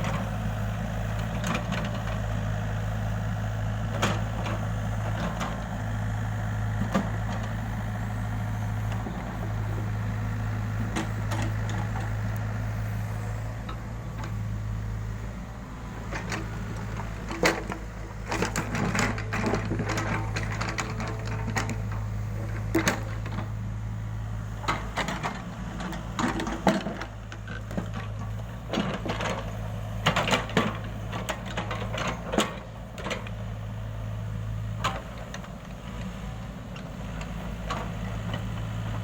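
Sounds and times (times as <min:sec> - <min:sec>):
excavator engine running: 0:00.0 - 0:39.0.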